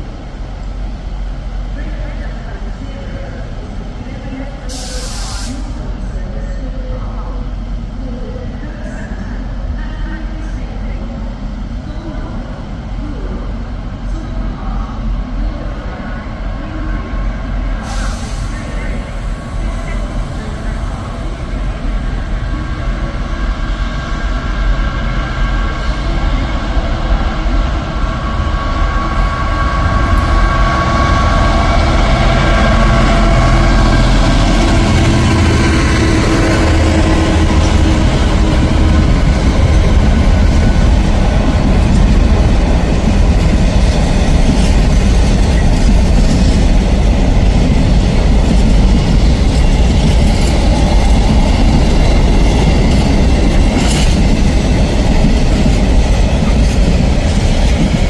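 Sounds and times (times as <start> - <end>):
steady pitched train tones: 0.0 - 58.0
train rumbling past: 0.0 - 58.0.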